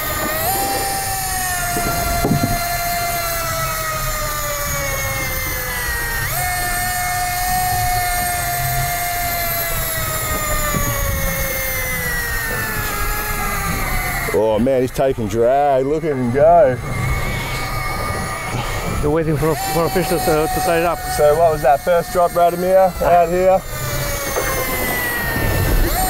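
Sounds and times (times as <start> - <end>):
fishing reel motor whining: 0.0 - 26.0.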